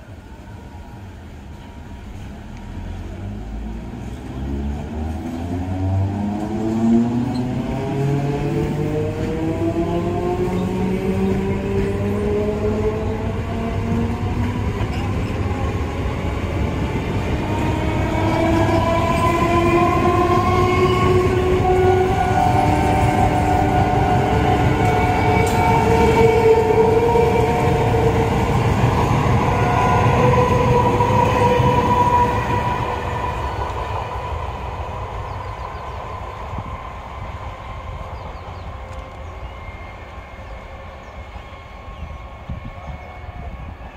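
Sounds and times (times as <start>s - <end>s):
wheels rumbling on rails: 0.0s - 43.9s.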